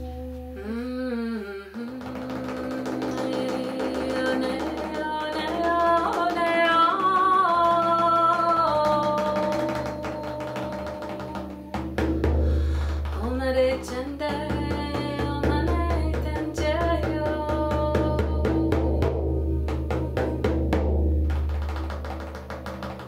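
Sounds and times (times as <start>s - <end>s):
drum beats: 1.8s - 23.0s
deep drum: 1.9s - 23.0s.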